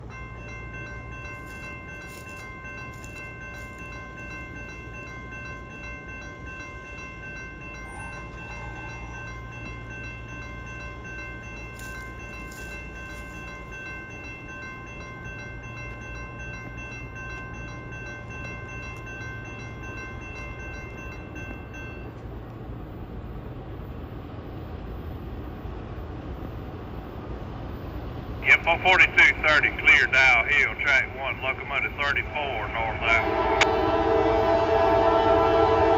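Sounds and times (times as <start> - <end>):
freight train rumble: 0.0 - 35.9.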